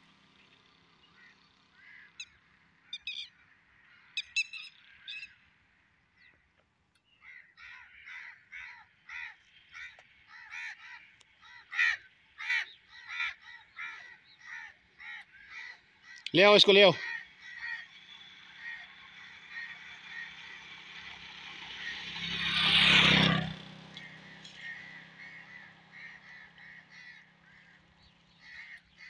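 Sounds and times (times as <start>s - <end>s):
bird giving harsh calls: 1.0s - 5.5s, 7.1s - 23.3s, 24.0s - 29.0s.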